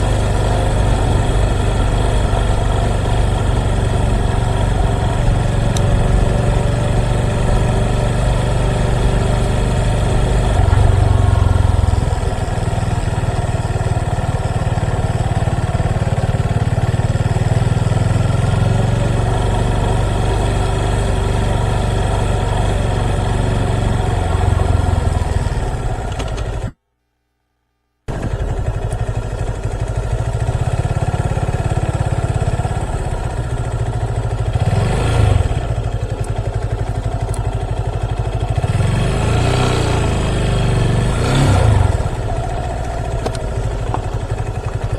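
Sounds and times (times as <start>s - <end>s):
motorcycle engine running: 0.0s - 26.8s, 28.1s - 44.9s.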